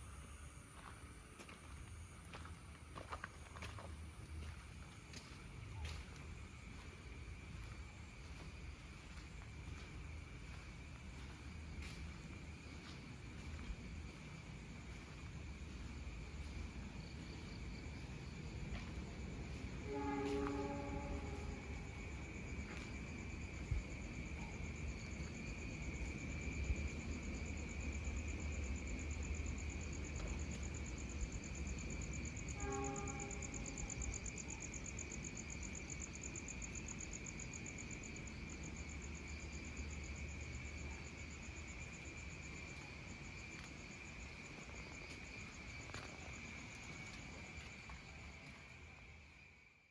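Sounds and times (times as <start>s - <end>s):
crickets and insects trilling: 0.0s - 49.9s.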